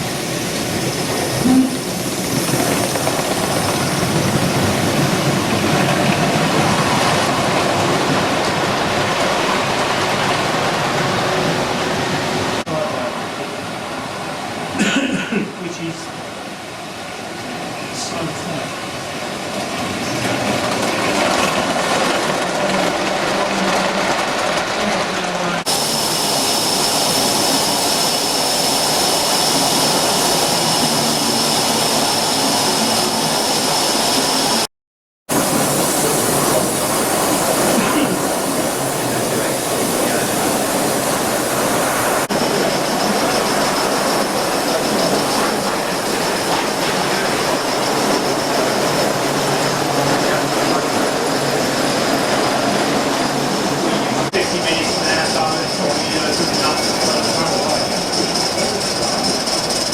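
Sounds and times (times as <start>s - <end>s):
model trains running: 0.0s - 14.8s, 15.7s - 34.7s, 35.3s - 59.9s.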